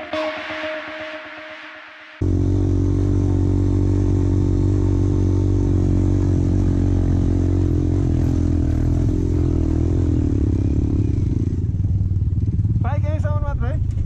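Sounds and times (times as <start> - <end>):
motorcycle engine running: 2.2 - 14.0.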